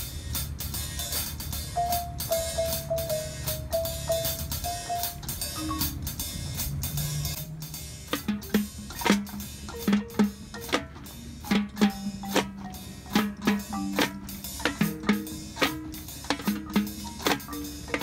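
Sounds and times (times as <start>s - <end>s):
drumline strokes: 0.0s - 18.0s
marching band playing: 1.7s - 18.0s.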